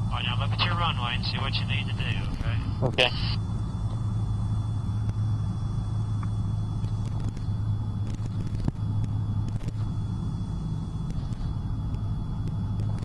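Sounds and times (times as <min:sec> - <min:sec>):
airplane engine droning: 0:00.0 - 0:13.0.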